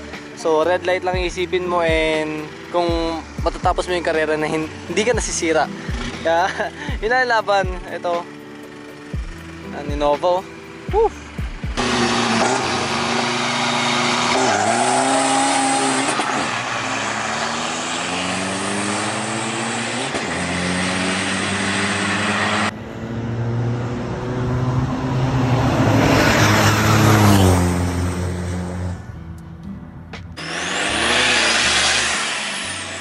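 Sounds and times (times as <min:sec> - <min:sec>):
diesel trucks accelerating: 0:00.0 - 0:33.0.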